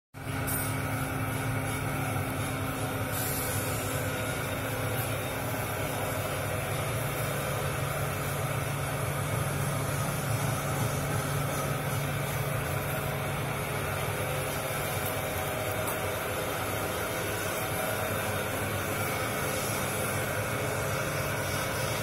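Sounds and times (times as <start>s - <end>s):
machine motors humming: 0.2s - 22.0s.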